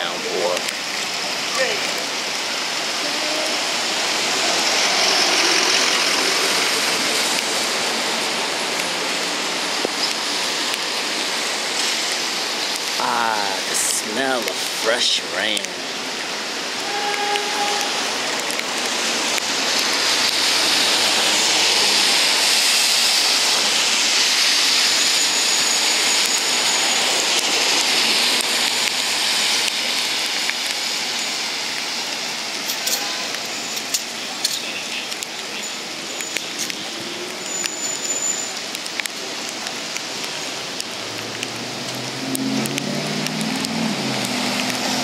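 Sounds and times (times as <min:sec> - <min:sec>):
heavy rain pouring: 0:00.0 - 0:45.0
raindrops ticking close by: 0:00.0 - 0:45.0.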